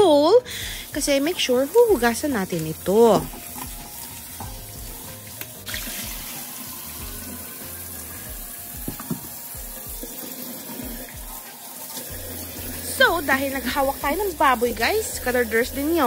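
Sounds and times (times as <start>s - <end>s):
tap water running into sink: 0.5s - 16.0s.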